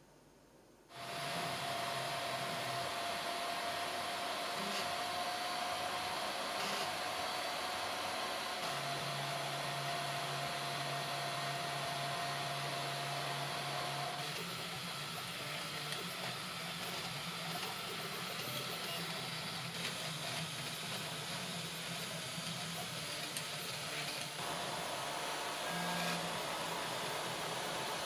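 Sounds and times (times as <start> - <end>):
fan hiss: 0.0 - 28.0.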